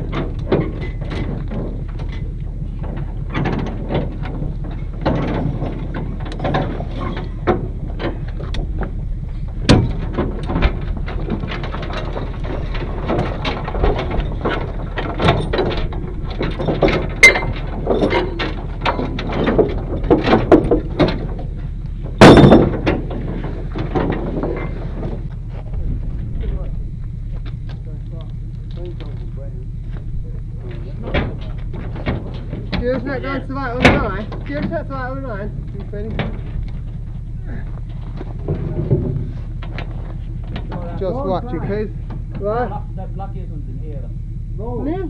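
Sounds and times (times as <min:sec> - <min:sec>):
hay baler knocking and clanking: 0:00.0 - 0:43.4
low hum: 0:00.0 - 0:45.0.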